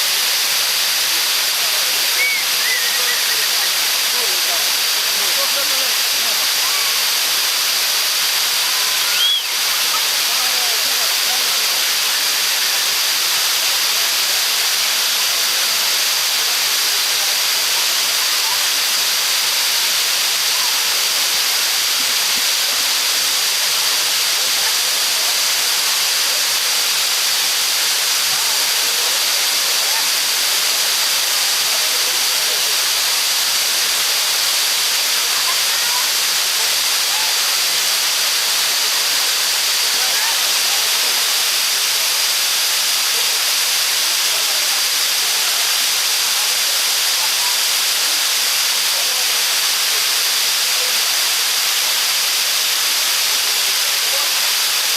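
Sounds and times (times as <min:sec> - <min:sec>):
water rushing over dam: 0:00.0 - 0:54.9.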